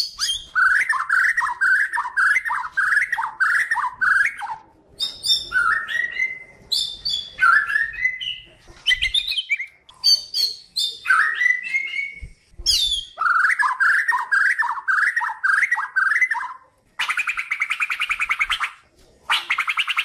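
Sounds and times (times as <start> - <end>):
bird singing whistles and chirps: 0.0 - 18.8.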